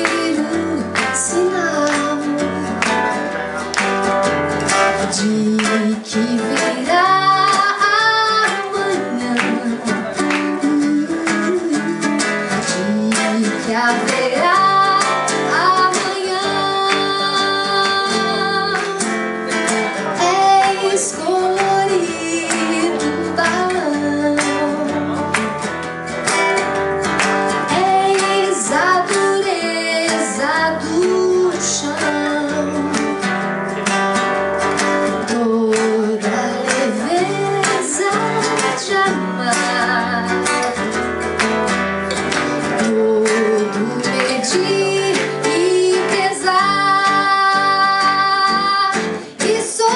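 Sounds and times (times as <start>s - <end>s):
woman singing: 0.0s - 3.7s, 4.8s - 25.5s, 27.5s - 33.8s, 34.8s - 41.1s, 42.3s - 49.9s
strummed acoustic guitar: 0.0s - 49.9s.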